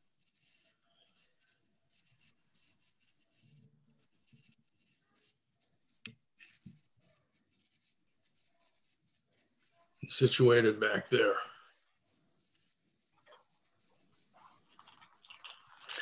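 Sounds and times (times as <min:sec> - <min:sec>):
rubbing of thread: 0:00.0 - 0:16.0.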